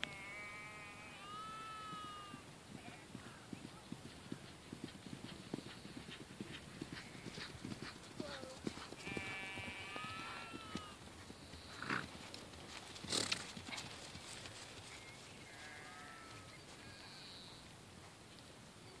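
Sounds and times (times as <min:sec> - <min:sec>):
pony hoofbeats on grass: 0:01.6 - 0:19.0.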